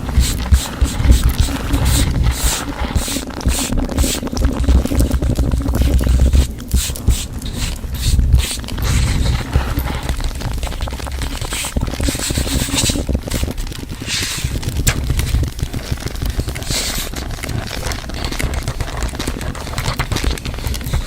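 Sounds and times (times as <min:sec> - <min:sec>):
crinkling and crackling: 0:00.0 - 0:21.0.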